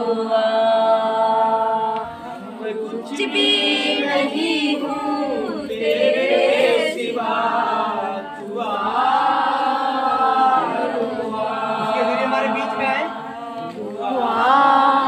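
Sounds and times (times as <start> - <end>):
crowd singing a hymn: 0.0 - 15.0.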